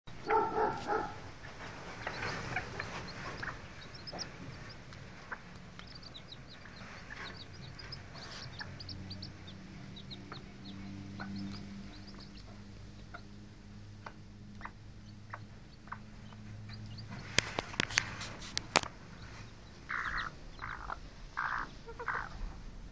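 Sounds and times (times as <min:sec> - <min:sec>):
chicks peeping: 0:00.1 - 0:22.5
hen clucking: 0:00.3 - 0:13.4, 0:14.0 - 0:22.5.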